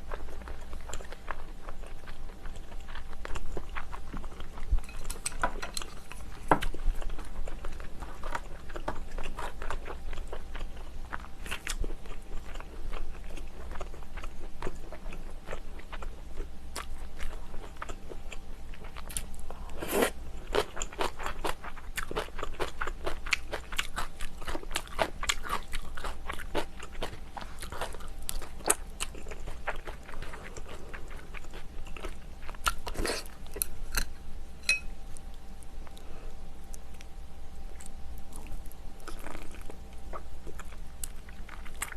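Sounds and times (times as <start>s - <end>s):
chewing and biting: 0.0s - 34.1s, 37.8s - 41.9s.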